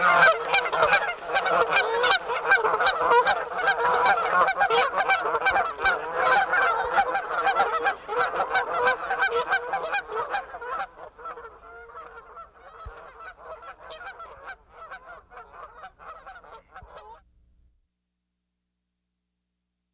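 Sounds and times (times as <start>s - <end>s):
geese honking: 0.0s - 17.1s.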